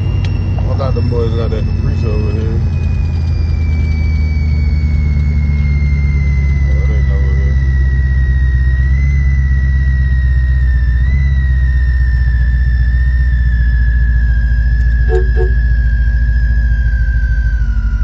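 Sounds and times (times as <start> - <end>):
engine and road rumble: 0.0 - 18.0
high whine falling in pitch: 0.0 - 18.0.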